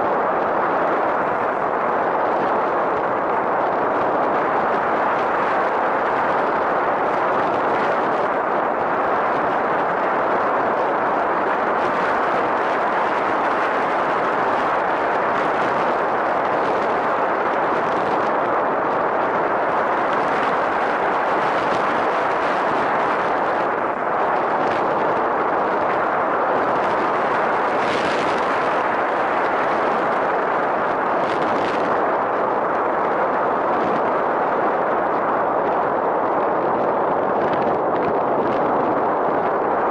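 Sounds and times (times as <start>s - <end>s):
rushing airflow: 0.0s - 39.9s.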